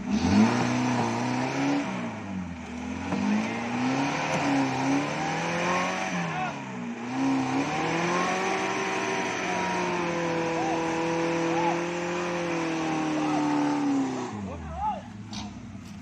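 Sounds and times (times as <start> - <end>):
small car engine revving: 0.0 - 16.0.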